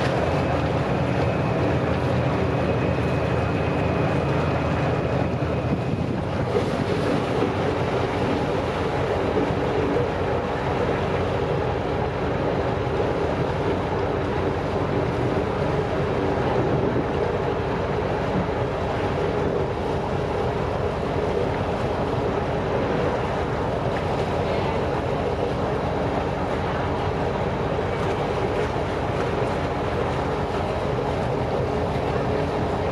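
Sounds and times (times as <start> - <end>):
boat engine running: 0.0 - 32.9
water rushing along hull: 0.0 - 32.9.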